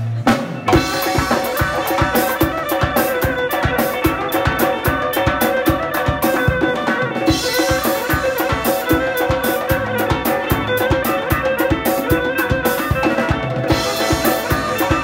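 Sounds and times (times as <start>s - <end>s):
drum kit: 0.0s - 15.0s
frame drum beat: 0.0s - 15.0s
electric violin melody: 0.6s - 15.0s.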